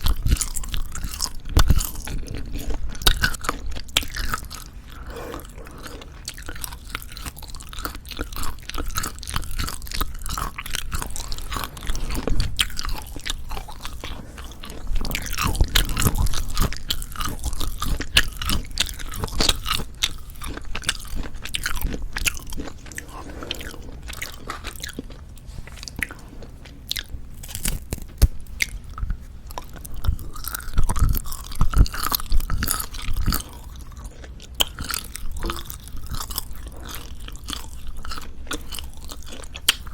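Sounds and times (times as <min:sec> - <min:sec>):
chewing jerky: 0:00.0 - 0:39.9.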